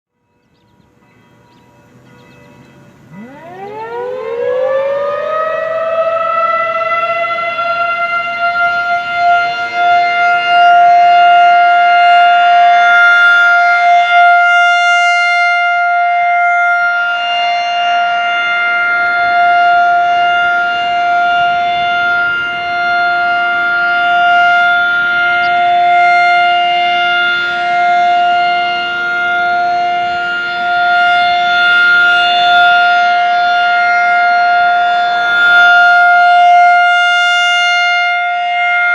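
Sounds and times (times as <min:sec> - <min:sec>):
rotating warning siren: 0:00.2 - 0:38.9.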